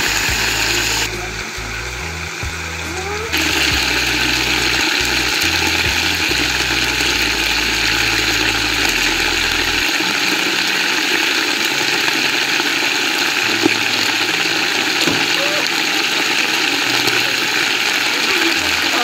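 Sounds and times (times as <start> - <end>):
meat sizzling in a pot: 0.0 - 1.1, 3.3 - 19.0.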